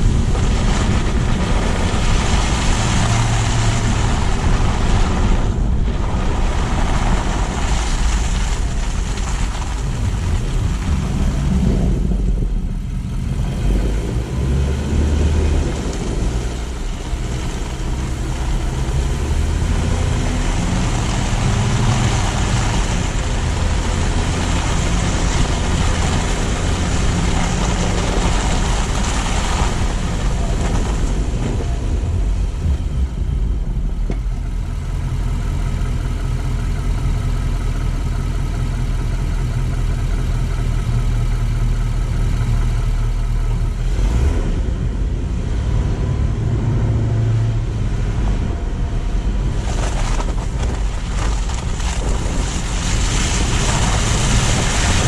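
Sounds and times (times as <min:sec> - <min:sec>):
car engine hum: 0:00.0 - 0:55.0
tyre and road noise: 0:00.0 - 0:55.0.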